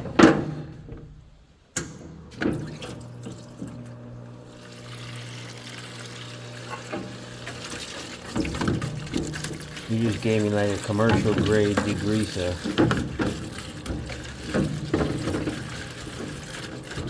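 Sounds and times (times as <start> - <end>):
pump motor humming: 2.3 - 17.0
liquid splashing into tub: 2.4 - 17.0.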